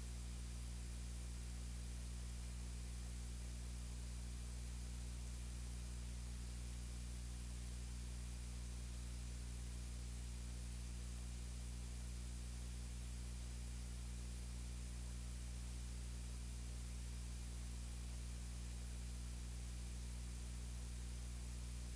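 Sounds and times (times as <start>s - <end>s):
constant hiss: 0.0s - 21.9s
electrical hum with low tones: 0.0s - 21.9s.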